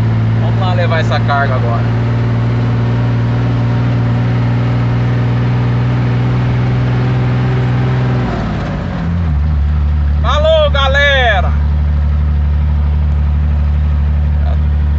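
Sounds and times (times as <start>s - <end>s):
truck engine under load: 0.0s - 14.9s.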